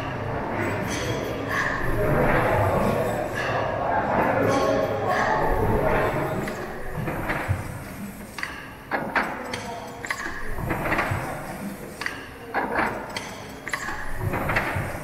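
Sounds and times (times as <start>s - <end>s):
steam engine rush and knocks: 0.9s - 9.4s, 10.1s - 15.0s.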